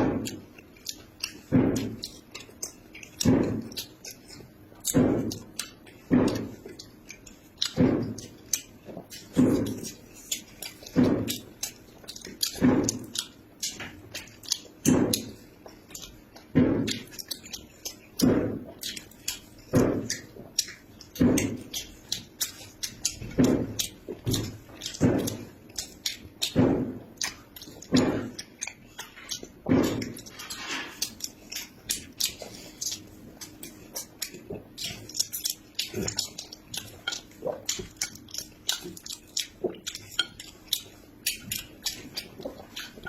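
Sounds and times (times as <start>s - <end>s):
chewing with wet mouth sounds: 0.0s - 43.0s.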